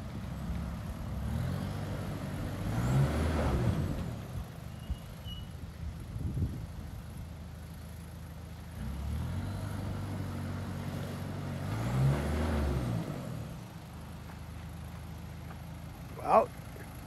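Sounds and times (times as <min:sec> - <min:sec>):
engine working at low revs: 0:00.0 - 0:07.7, 0:08.3 - 0:17.0.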